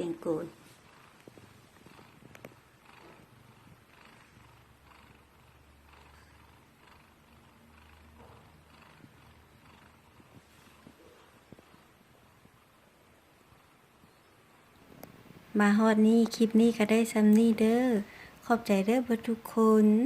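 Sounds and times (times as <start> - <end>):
cat purring softly: 0.0 - 20.0.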